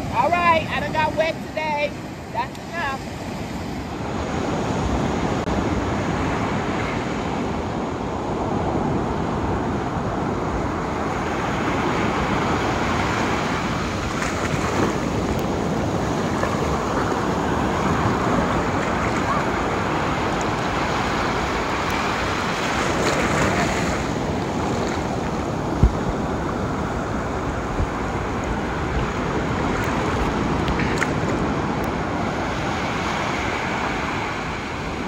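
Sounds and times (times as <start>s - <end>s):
ocean waves breaking: 0.0s - 35.0s
wind on microphone: 0.0s - 35.0s.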